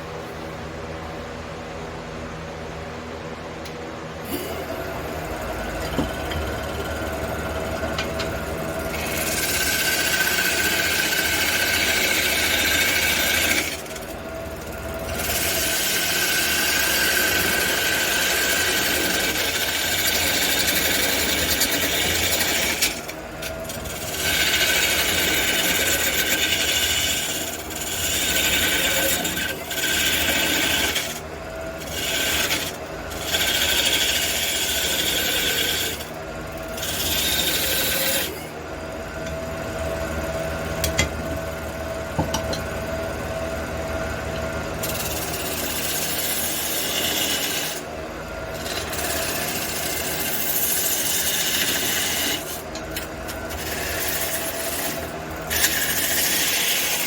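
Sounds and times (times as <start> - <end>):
turning tool rasping wood: 4.3 - 38.5, 44.6 - 57.0
wood lathe humming: 4.3 - 57.0.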